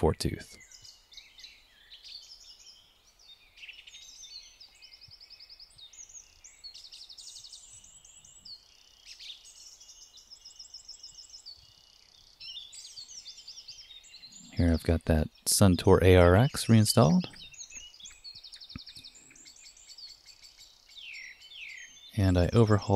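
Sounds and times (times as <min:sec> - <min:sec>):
small birds chirping and singing: 0:00.0 - 0:22.9.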